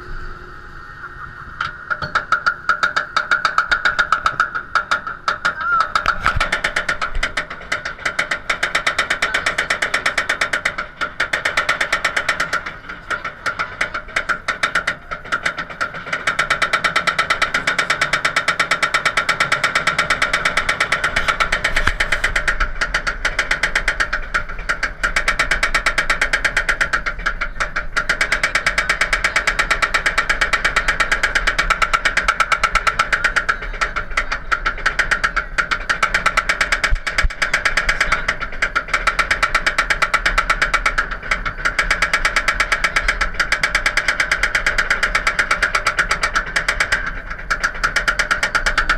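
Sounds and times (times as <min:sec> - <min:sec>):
roller coaster lift chain clatter: 0:00.0 - 0:48.9
steady hum: 0:00.0 - 0:48.9.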